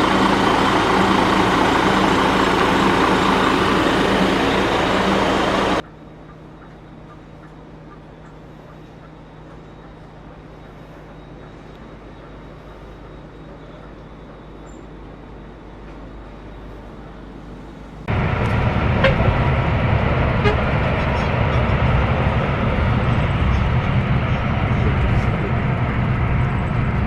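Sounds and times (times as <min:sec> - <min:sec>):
coach engine drone: 0:00.0 - 0:27.0
road and engine noise: 0:00.0 - 0:27.0.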